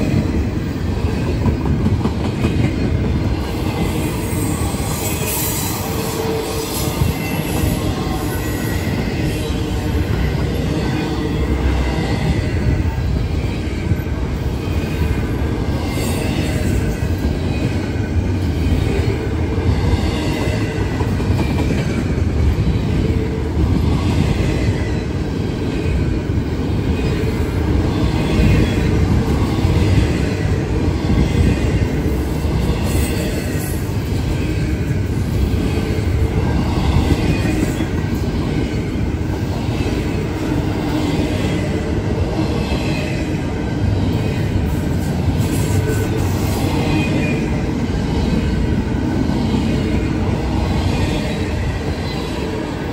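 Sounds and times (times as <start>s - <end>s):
freight train wheels clattering on rails: 0.0s - 52.9s.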